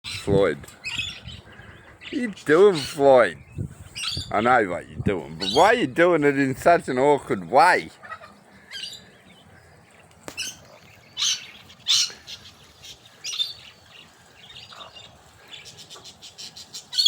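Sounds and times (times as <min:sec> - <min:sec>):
bird chirping: 0:00.1 - 0:04.6, 0:05.3 - 0:06.0, 0:07.4 - 0:17.0.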